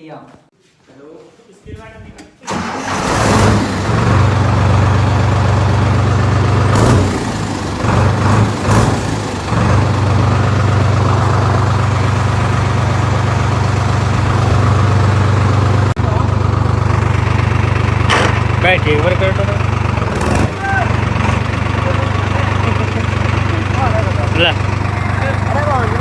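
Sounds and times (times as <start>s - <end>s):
tractor engine idling: 2.4s - 26.0s.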